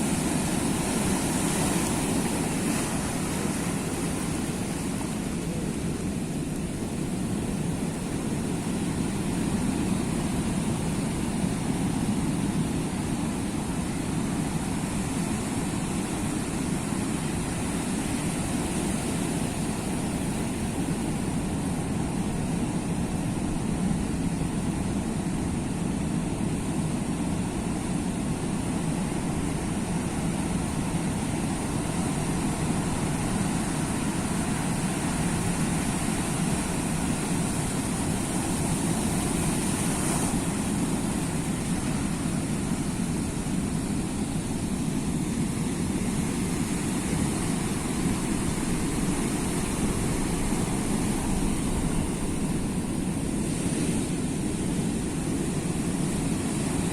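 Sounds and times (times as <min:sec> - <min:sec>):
sea surf washing: 0:00.0 - 0:56.9.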